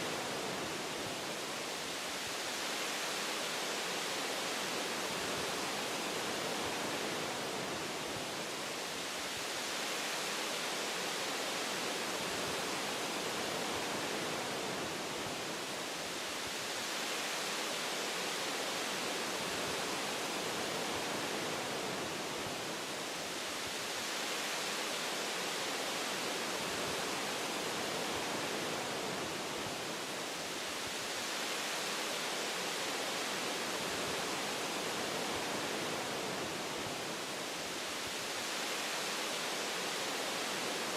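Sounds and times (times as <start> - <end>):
wind through tree branches: 0.0 - 40.9.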